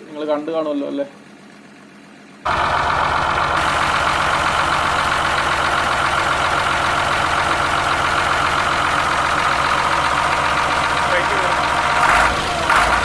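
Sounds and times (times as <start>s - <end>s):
diesel bus engine idling: 1.2s - 13.0s.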